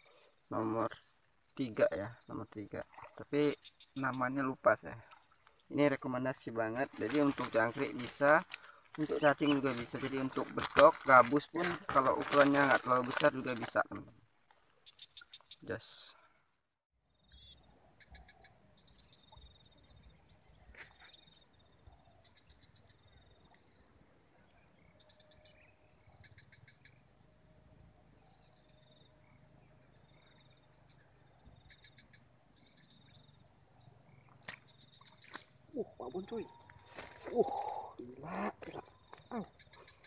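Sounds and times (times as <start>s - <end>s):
rapid insect chirping: 0.0s - 40.0s.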